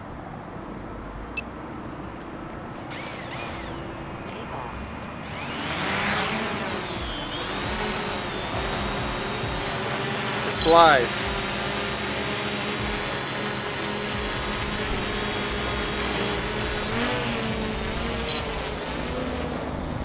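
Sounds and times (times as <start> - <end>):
drone propellers whining: 2.6 - 20.0.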